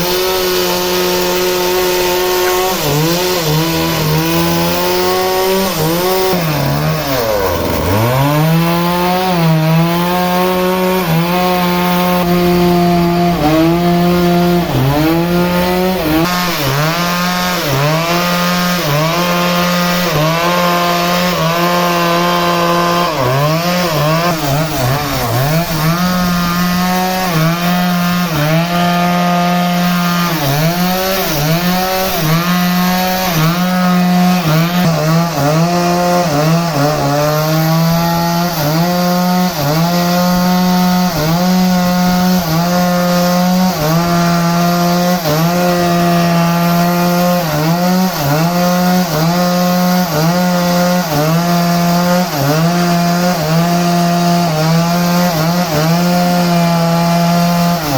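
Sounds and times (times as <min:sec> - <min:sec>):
saw cutting wood: 0:00.0 - 0:57.9.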